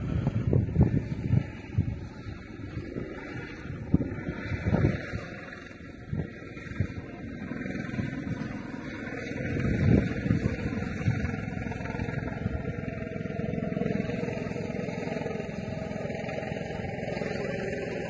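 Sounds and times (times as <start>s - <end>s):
vehicle engine running: 0.0s - 18.0s
faint voices: 1.0s - 18.0s.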